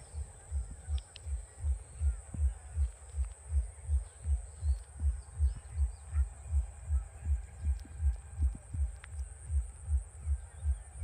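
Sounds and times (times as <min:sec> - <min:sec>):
faint bird chirps: 0:00.0 - 0:07.7, 0:09.8 - 0:11.0
low thumping beat: 0:00.0 - 0:11.0.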